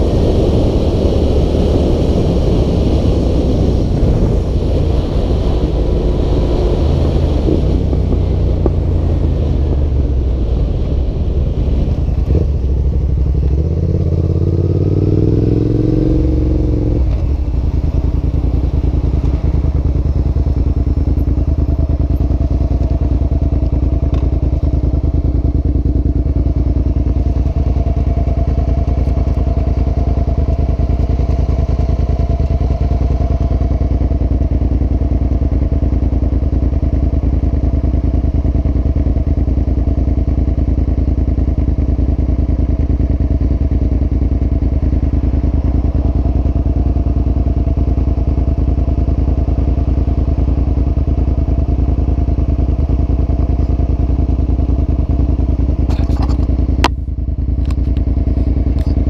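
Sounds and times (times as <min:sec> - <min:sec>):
motorcycle engine idling: 0:03.6 - 0:59.0.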